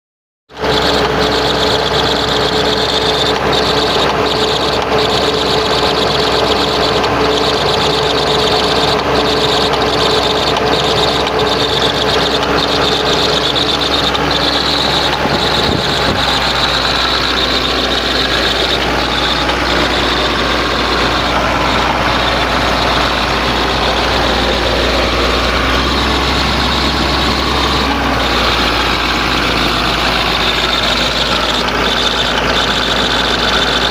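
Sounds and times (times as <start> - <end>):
diesel engine running: 0.5 - 33.9
odd engine noise: 0.5 - 33.9.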